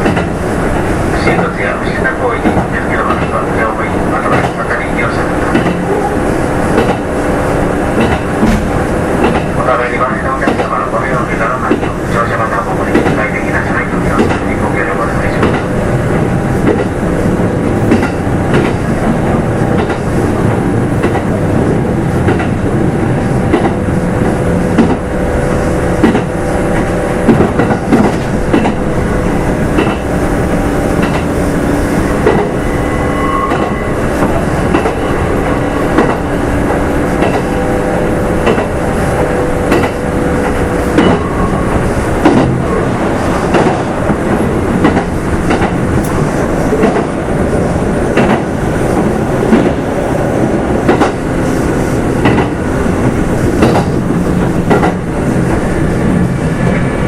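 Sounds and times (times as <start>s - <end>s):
rail joints clacking: 0.0s - 57.0s
train traction motors humming: 0.0s - 57.0s.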